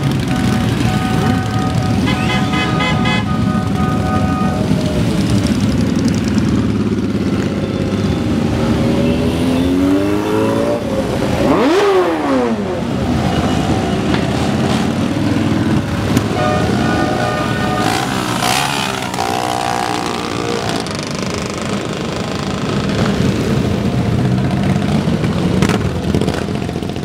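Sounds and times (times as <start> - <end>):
motorcycles riding past revving: 4.5 - 27.0
motorcycle revving sharply passing: 4.6 - 27.0.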